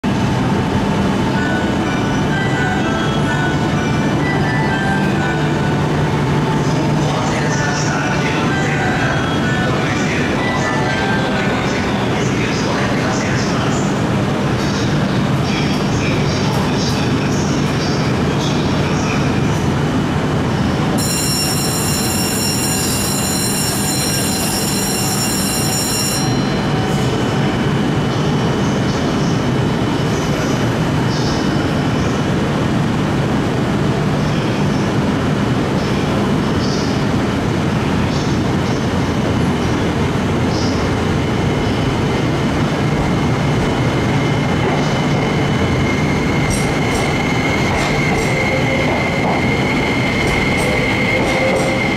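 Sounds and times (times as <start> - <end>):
electric train humming: 0.0 - 51.9.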